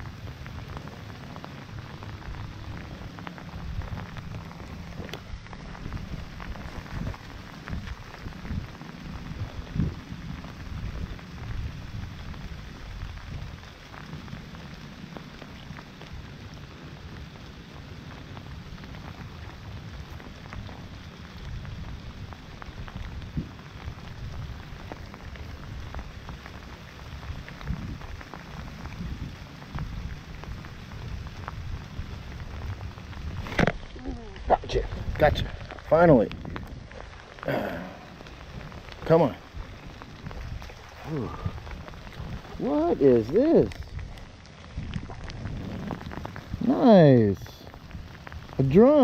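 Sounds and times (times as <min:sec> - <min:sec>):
steady rain with drop ticks: 0:00.0 - 0:49.0.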